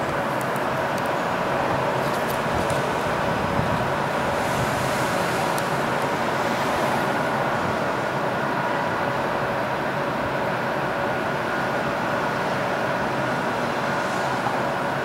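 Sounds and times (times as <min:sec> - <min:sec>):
city street traffic: 0:00.0 - 0:15.0
constant hum: 0:00.0 - 0:15.0.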